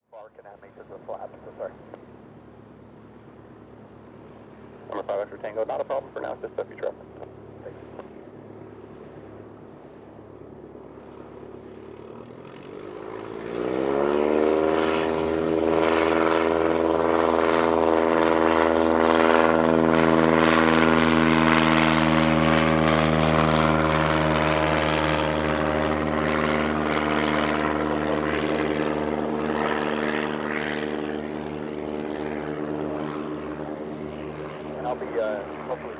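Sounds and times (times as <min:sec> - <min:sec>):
light aircraft engine and propeller: 0:00.0 - 0:35.9.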